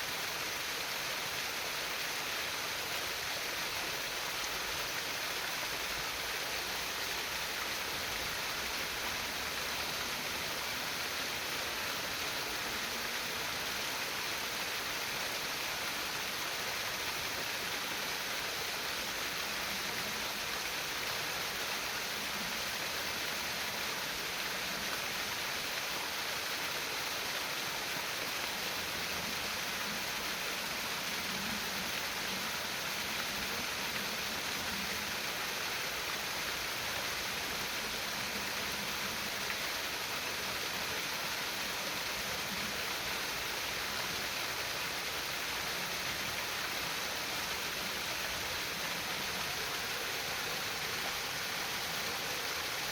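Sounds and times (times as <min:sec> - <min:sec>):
stream babbling over stones: 0:00.0 - 0:52.9.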